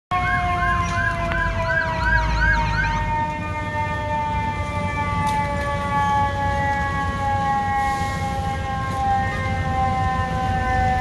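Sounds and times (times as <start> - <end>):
siren yelp: 0.1 - 11.0
steady siren tone: 0.1 - 11.0.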